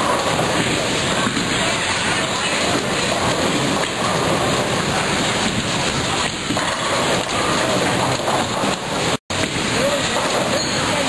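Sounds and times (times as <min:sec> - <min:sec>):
bowling balls rolling: 0:00.0 - 0:11.0.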